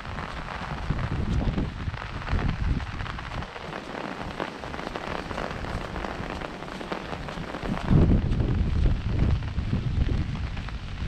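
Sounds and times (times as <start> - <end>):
rain pattering on umbrella: 0.0 - 11.0
wind rumbling on microphone: 0.0 - 11.0.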